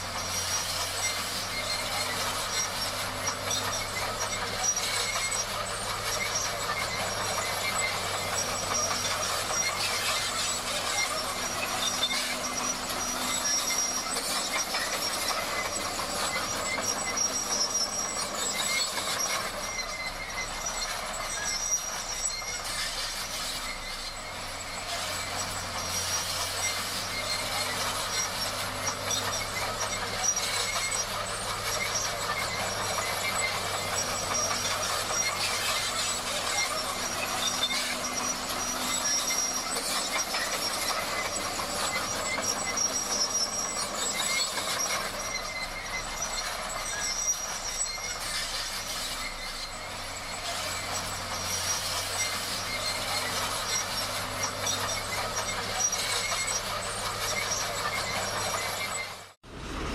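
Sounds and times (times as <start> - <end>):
diesel engine humming: 0.0 - 59.9
steel tracks clattering and squealing: 0.0 - 59.9.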